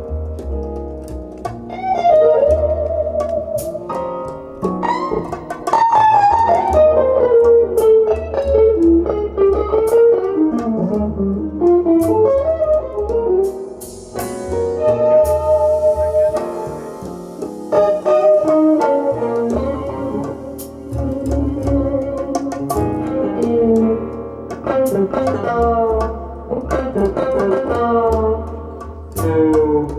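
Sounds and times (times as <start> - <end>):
bass notes: 0.0 - 29.9
guitar melody: 0.0 - 29.9
light percussion: 0.0 - 29.9.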